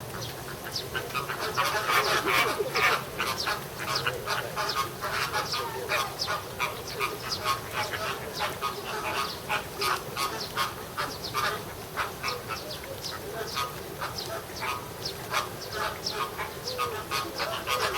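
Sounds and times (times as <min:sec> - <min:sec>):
flamingos honking: 0:00.0 - 0:17.9.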